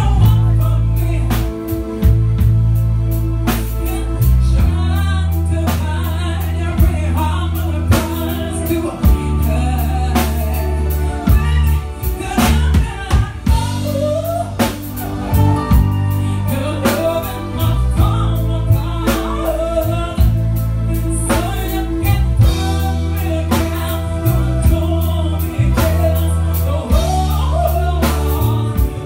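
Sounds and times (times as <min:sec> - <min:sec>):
person singing: 0:00.0 - 0:02.5, 0:03.4 - 0:29.0
deep bass line: 0:00.0 - 0:29.0.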